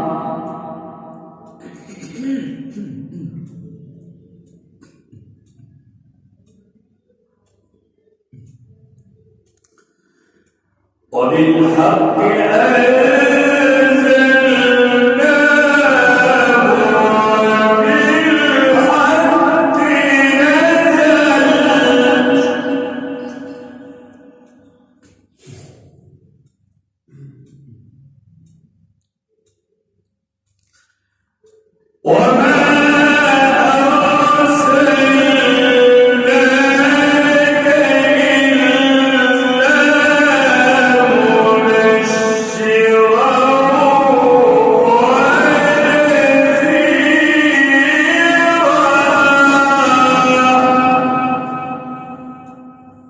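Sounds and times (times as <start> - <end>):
man reciting melodically: 0.0 - 29.7, 30.5 - 53.0.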